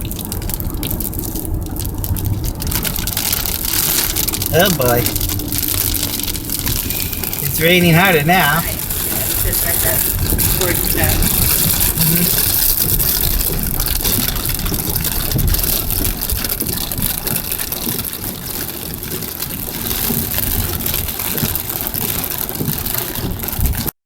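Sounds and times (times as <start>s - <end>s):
low rumble: 0.0s - 22.9s
rain on car roof: 0.0s - 24.0s
tyres on wet road: 0.0s - 24.0s.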